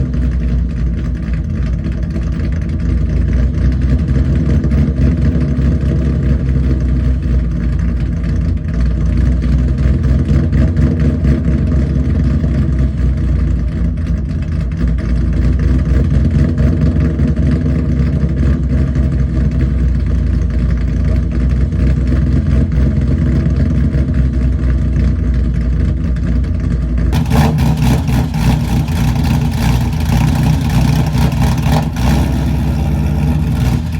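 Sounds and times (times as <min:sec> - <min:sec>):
car engine choppy idle: 0:00.0 - 0:33.9.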